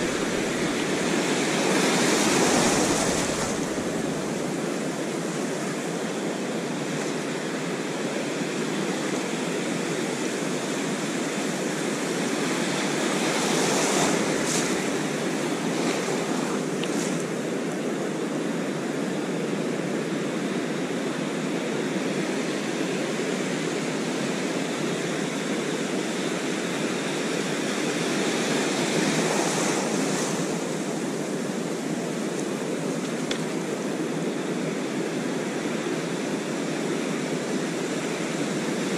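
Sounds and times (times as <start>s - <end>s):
ocean surf washing in: 0.0s - 38.9s
waves breaking: 0.0s - 38.9s.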